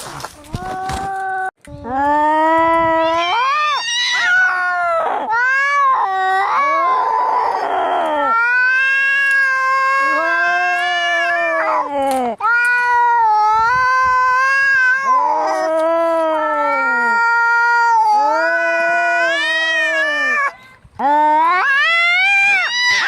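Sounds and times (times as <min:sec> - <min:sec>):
cats yowling in a fight: 0:02.9 - 0:20.6, 0:21.5 - 0:23.0.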